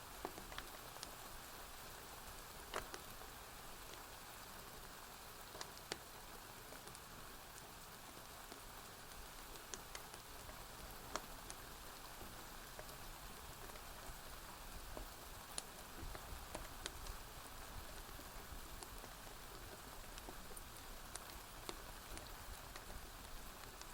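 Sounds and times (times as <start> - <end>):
rain hissing: 0.0 - 23.9
wood fire popping and crackling: 0.1 - 23.9.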